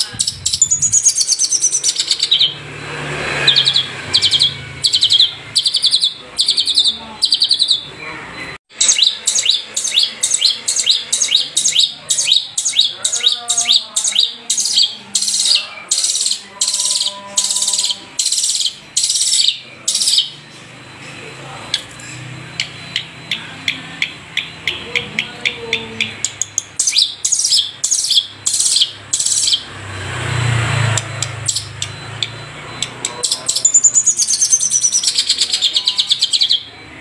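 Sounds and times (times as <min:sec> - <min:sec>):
bird singing buzzy trills: 0:00.0 - 0:37.0.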